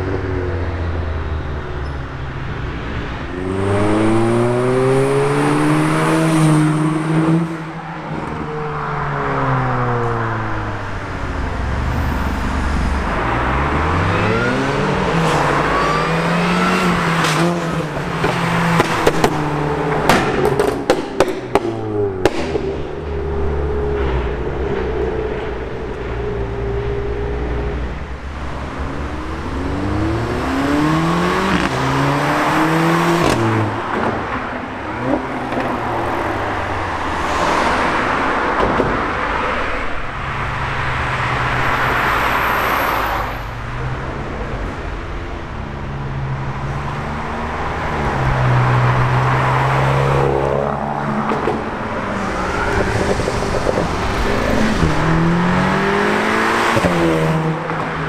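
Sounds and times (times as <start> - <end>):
cars accelerating hard: 2.4 - 58.0.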